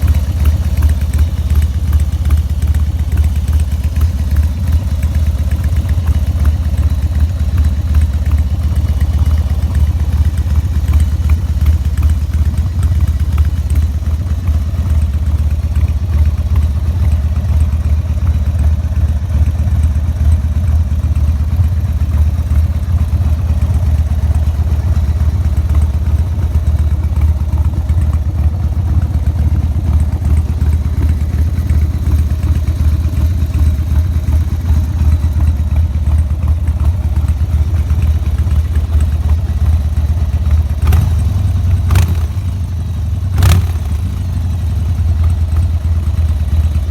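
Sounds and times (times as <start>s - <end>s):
motorcycle idling: 0.0s - 46.9s.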